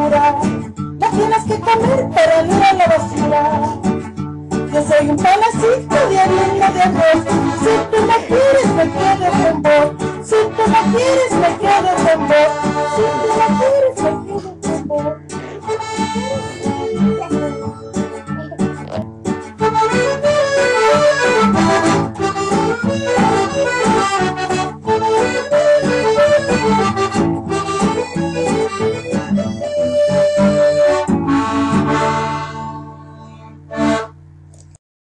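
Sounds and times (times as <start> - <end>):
instrumental children's music: 0.0 - 34.2.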